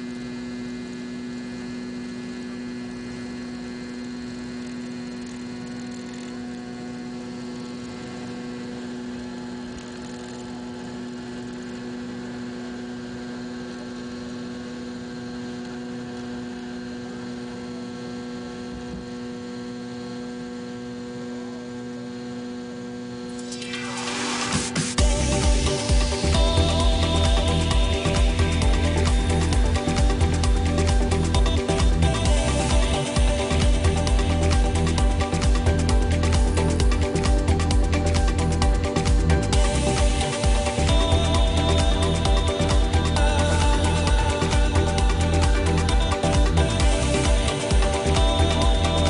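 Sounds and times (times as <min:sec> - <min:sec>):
airliner cabin engine drone: 0:00.0 - 0:19.9, 0:23.0 - 0:49.0.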